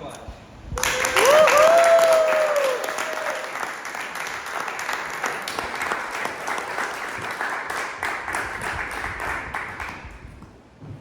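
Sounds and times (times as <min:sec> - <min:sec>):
crowd applauding: 0:00.8 - 0:10.2.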